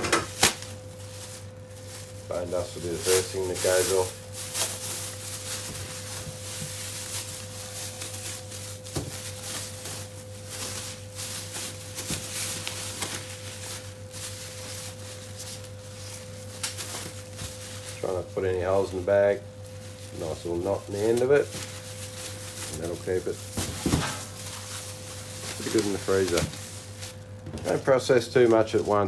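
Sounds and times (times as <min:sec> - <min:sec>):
low electrical hum: 0:00.0 - 0:29.0
plastic bag rustling: 0:00.0 - 0:29.0.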